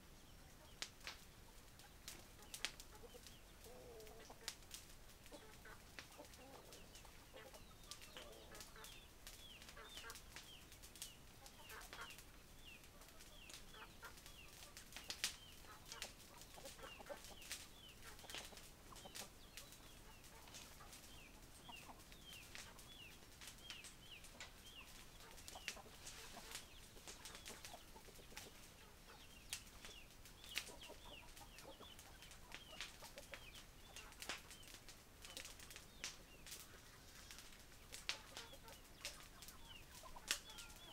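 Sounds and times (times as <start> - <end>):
chickens clucking: 0.1 - 40.9.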